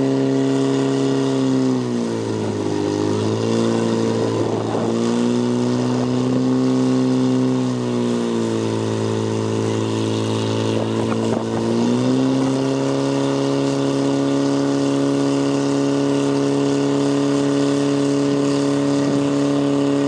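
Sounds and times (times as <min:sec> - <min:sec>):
pump engine running at high revs: 0:00.0 - 0:20.0.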